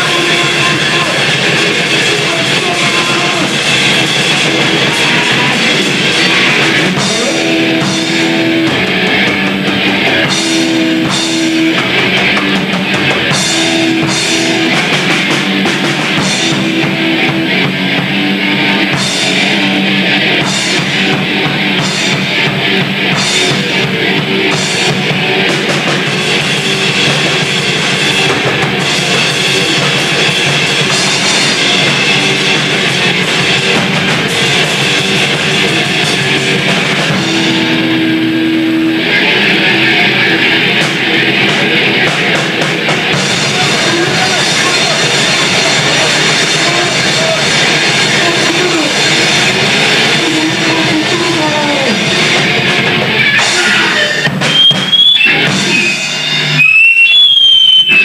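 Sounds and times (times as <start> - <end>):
distorted electric guitar: 0.0 - 58.0
drum kit with crashing cymbals: 0.0 - 58.0.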